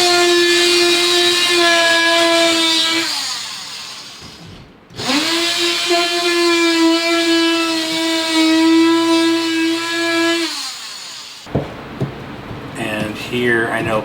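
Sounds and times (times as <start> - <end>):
power tool motor whining: 0.0 - 11.5.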